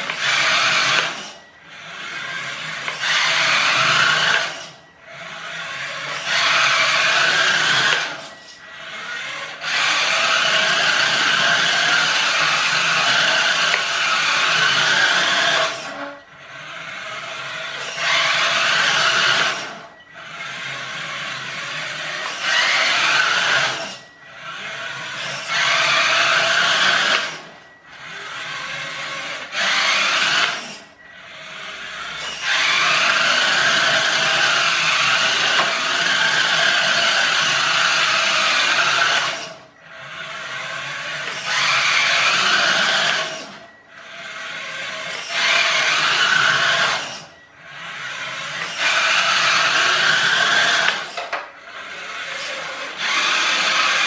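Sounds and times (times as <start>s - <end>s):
toy car electric motor whining: 0.0s - 54.0s.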